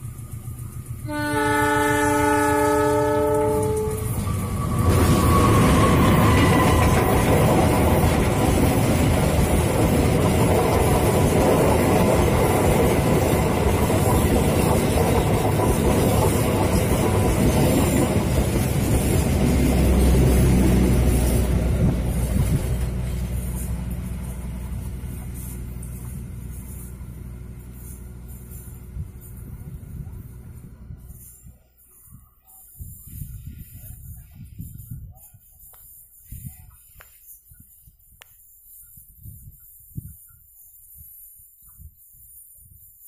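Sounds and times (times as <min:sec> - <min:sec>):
diesel locomotive engine: 0:00.0 - 0:37.6
train wheels on rails: 0:00.0 - 0:43.0.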